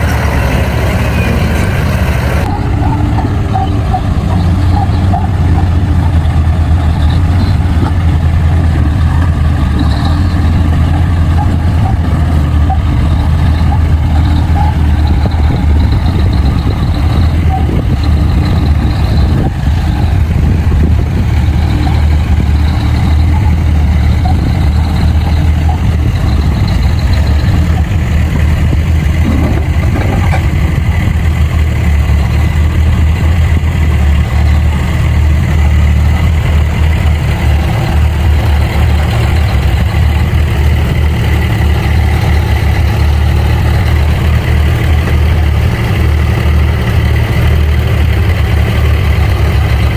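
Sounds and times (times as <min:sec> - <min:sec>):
bulldozer engine droning: 0:00.0 - 0:49.9.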